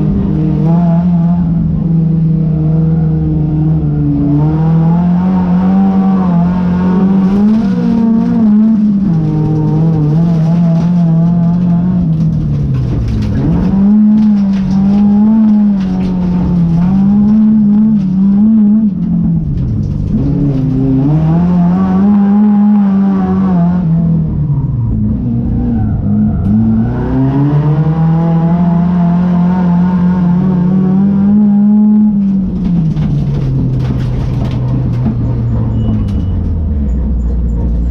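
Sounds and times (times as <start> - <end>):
race car engine revving: 0.0 - 35.8.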